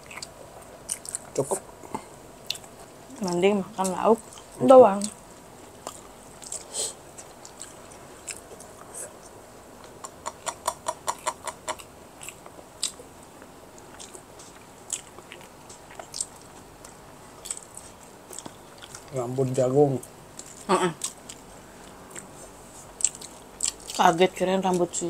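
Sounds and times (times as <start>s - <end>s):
person chewing crunchy food: 0.0s - 4.6s, 5.6s - 19.2s, 20.4s - 24.0s.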